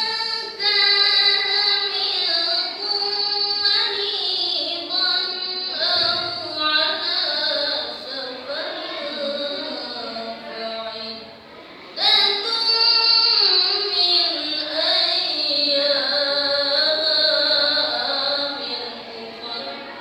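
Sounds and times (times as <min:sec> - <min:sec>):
person reciting melodically: 0:00.0 - 0:20.0.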